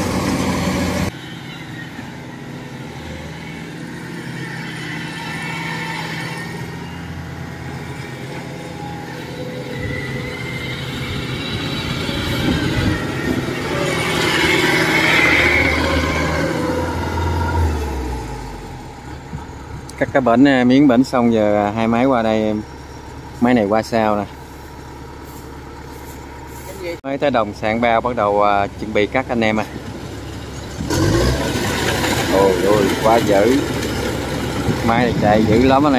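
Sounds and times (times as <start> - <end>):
combine harvester engine running: 0.0 - 35.9.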